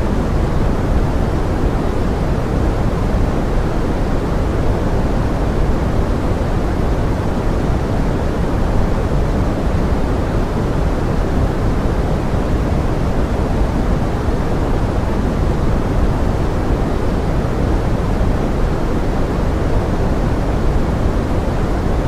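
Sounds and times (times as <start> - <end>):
steady pink noise: 0.0 - 22.0.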